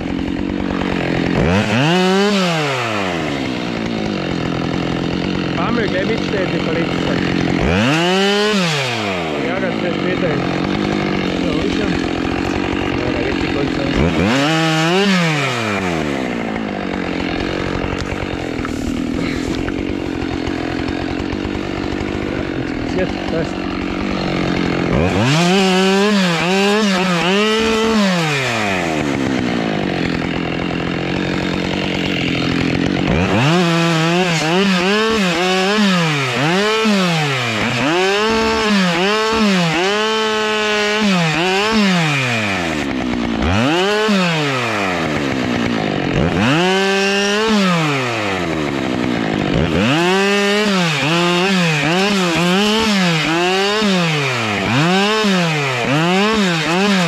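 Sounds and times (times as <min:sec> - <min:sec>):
chainsaw revving and idling: 0:00.0 - 0:57.0.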